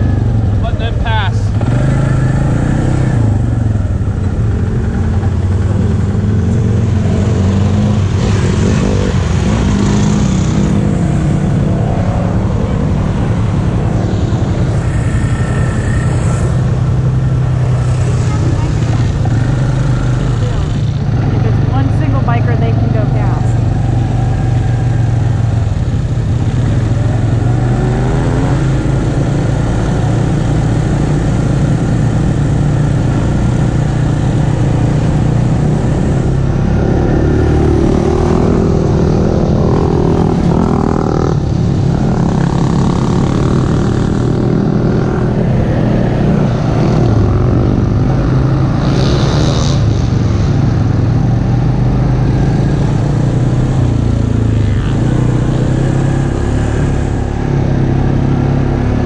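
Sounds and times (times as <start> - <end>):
atv engine running: 0.0 - 59.0
dirt bike engine: 0.0 - 59.0.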